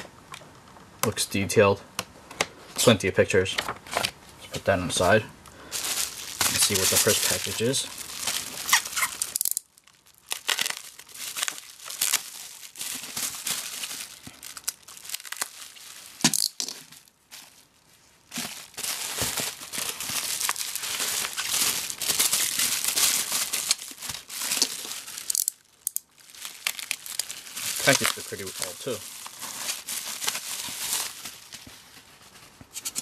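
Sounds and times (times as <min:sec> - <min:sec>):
bubble wrap crinkling: 0:05.0 - 0:32.8.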